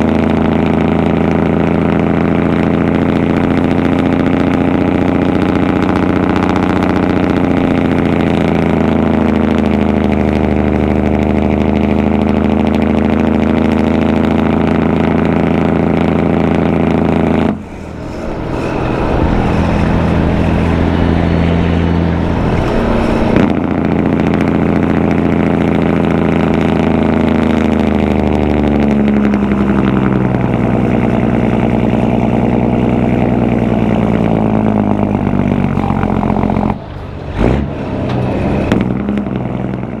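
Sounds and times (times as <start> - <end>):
diesel truck engine under load: 0.0 - 40.0.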